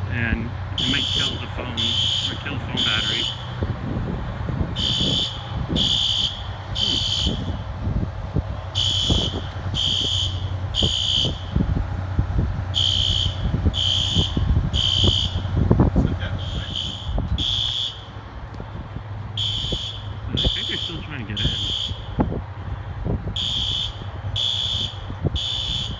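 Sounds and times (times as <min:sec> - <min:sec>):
fire alarm horns blasting: 0:00.0 - 0:25.9
wind buffeting microphone: 0:00.0 - 0:25.9.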